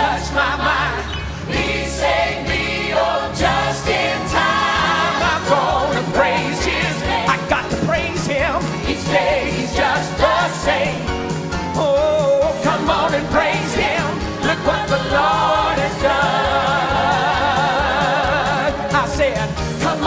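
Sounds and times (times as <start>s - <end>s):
choir singing gospel: 0.0s - 20.0s
instrumental accompaniment with beat: 1.6s - 20.0s.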